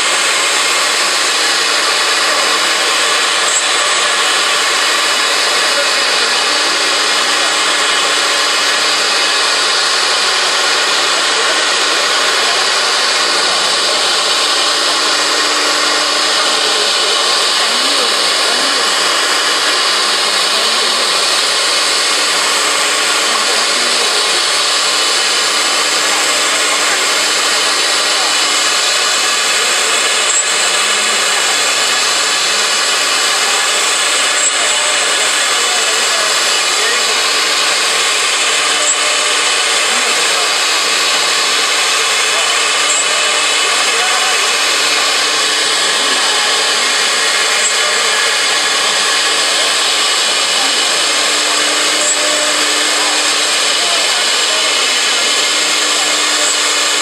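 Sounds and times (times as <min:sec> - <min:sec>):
cnc router cutting wood: 0:00.0 - 0:57.0.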